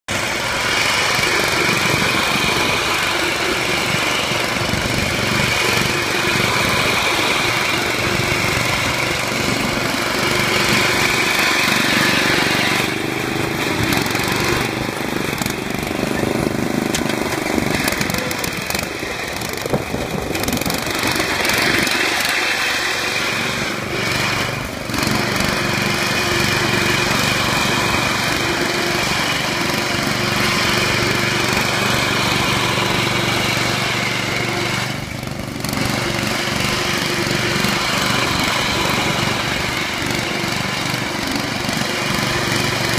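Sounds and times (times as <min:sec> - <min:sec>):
lawn tractor engine running: 0:00.1 - 0:42.9.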